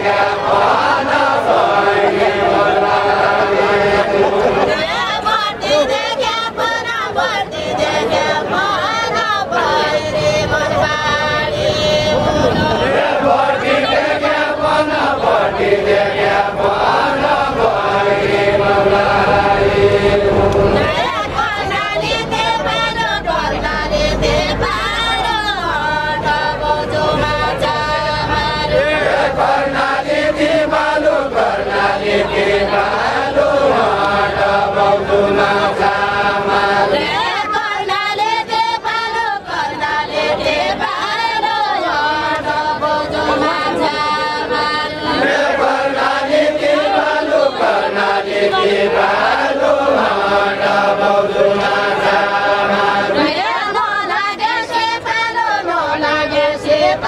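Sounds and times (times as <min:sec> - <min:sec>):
group singing without instruments: 0:00.0 - 0:57.0.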